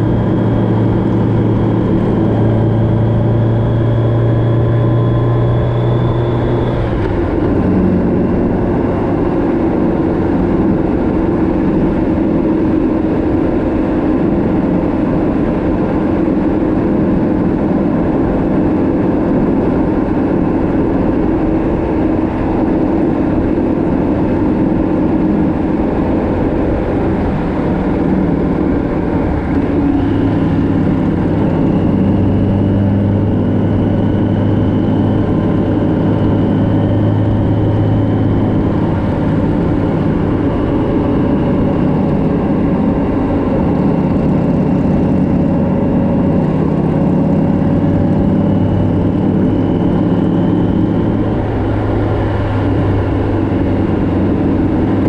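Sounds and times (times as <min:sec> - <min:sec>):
heavy wind noise: 0:00.0 - 0:55.0
motorcycle engine running: 0:00.0 - 0:55.0.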